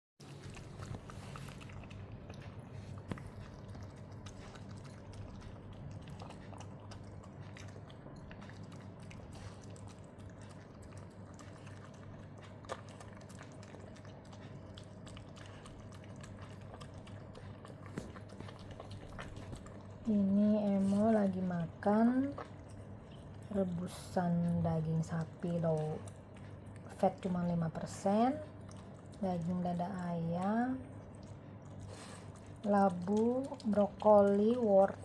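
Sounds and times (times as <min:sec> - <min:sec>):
dog chewing wet food: 0:00.2 - 0:35.0
low steady hum: 0:00.2 - 0:35.0.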